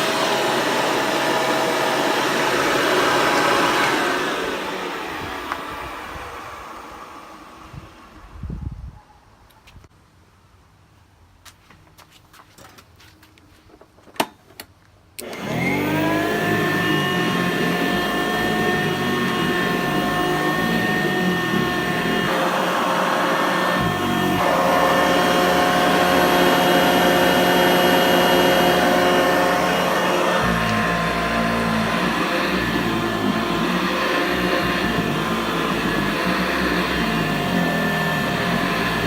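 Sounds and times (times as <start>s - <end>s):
vacuum cleaner motor running: 0.0s - 8.3s, 15.2s - 39.0s.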